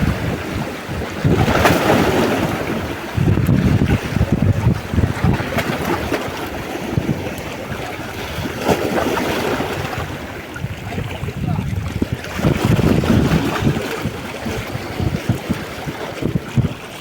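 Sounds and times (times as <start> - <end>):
low rumble gusts: 0.0 - 8.6, 9.4 - 17.0
sea waves: 0.0 - 17.0
wind buffeting microphone: 0.0 - 17.0.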